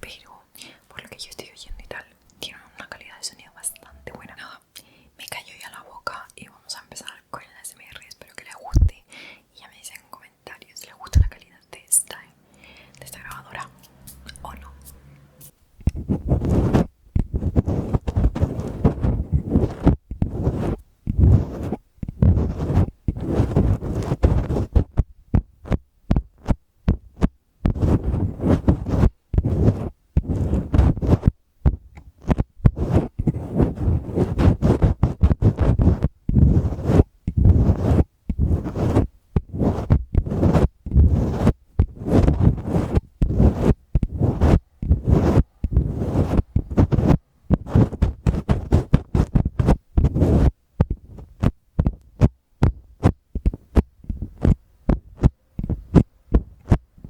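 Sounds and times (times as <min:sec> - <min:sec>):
scratching on microphone: 0:07.5 - 0:09.0, 0:10.8 - 0:12.2, 0:13.0 - 0:57.0.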